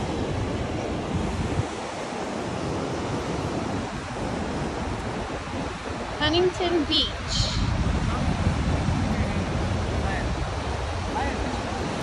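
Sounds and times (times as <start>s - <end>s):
ocean surf on beach: 0.0s - 12.0s
wind buffeting microphone: 0.0s - 12.0s.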